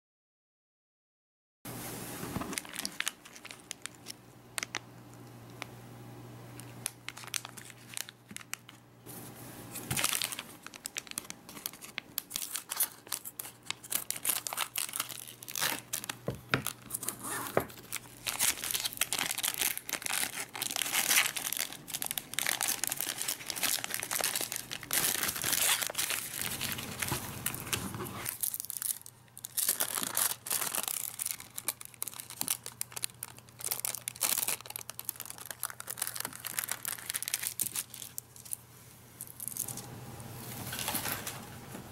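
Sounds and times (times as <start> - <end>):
plastic film rustling: 1.7 - 4.8, 6.6 - 38.6, 39.2 - 41.6
foil pouch crinkling and tearing: 2.4 - 4.8, 6.6 - 8.8, 9.7 - 38.6, 39.2 - 39.8.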